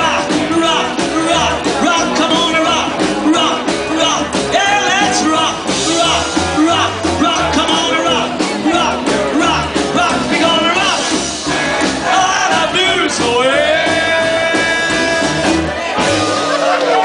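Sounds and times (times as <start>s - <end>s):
man singing: 0.0s - 15.8s
electric lead guitar: 0.0s - 17.0s
upright bass: 0.0s - 17.0s.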